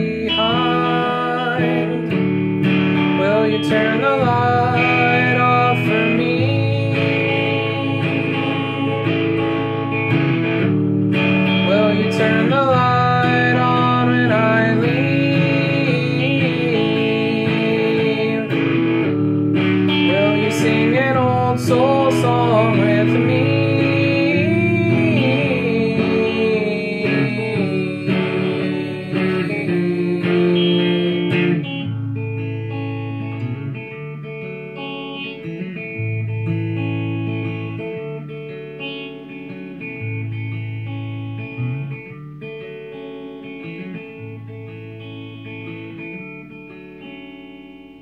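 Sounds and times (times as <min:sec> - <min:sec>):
electric guitar playing: 0:00.0 - 0:48.0.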